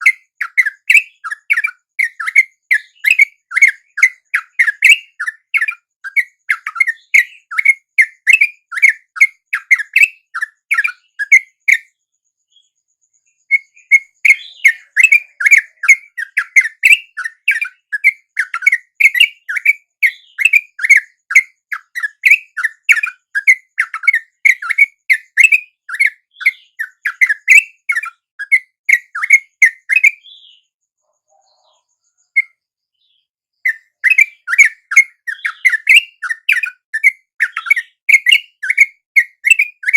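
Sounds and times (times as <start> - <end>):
bulbuls chirping rapidly: 0.0 - 11.8, 13.5 - 30.6, 33.6 - 39.9.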